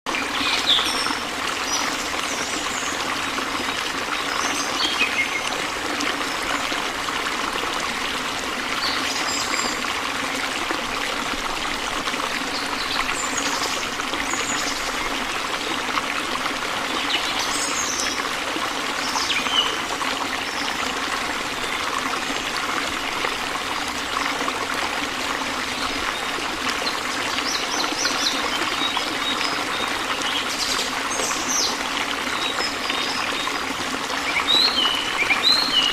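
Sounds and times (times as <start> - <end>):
water trickling: 0.1 - 35.9.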